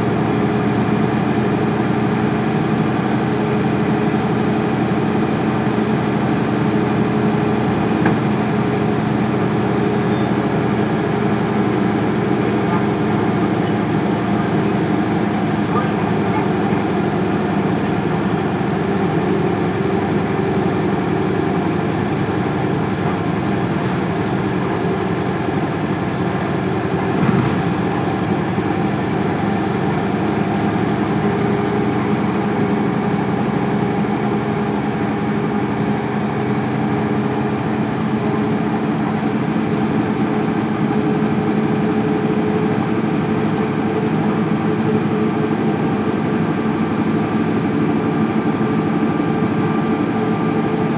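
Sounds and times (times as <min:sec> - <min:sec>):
diesel bus engine idling: 0:00.0 - 0:50.9.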